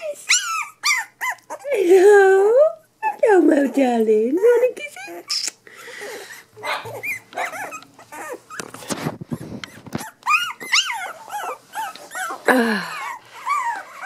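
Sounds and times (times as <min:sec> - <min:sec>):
puppies crying: 0:00.0 - 0:02.0, 0:02.7 - 0:14.0.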